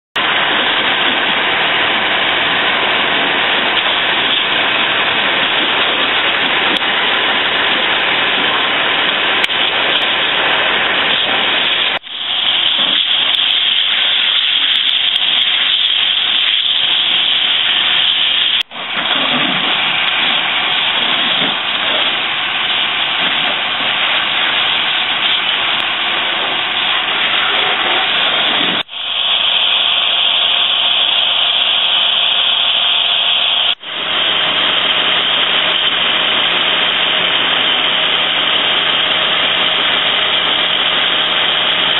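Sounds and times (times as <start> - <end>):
fire hose spray hissing: 0.2 - 41.9.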